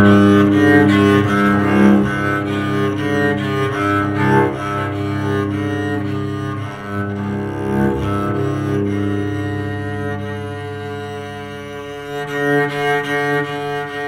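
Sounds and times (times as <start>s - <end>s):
electric cello bowed notes: 0.0s - 14.0s
low drone: 0.0s - 14.0s.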